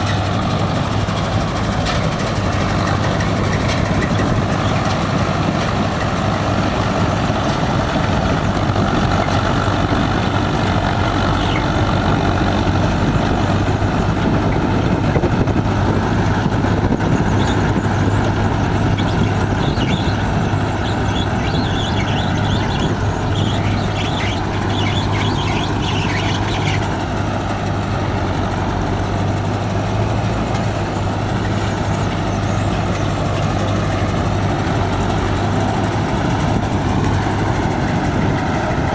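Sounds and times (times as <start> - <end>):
combine harvester engine humming: 0.0 - 38.9
machinery clatter: 0.0 - 38.9.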